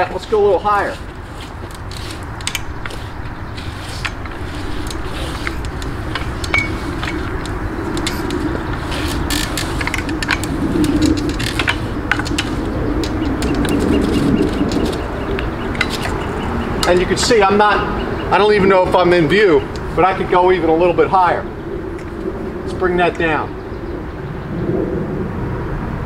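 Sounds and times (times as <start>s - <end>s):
pole scraping tree bark: 0.0s - 21.3s
bird chirp: 0.0s - 24.6s
outdoor rumble: 0.0s - 26.0s.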